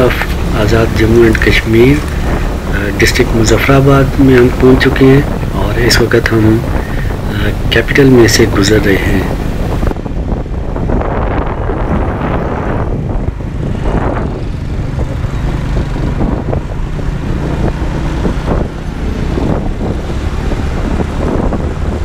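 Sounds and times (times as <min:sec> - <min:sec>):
motorcycle engine rumbling: 0:00.0 - 0:22.0
traffic: 0:00.0 - 0:22.0
wind buffeting microphone: 0:00.0 - 0:22.0.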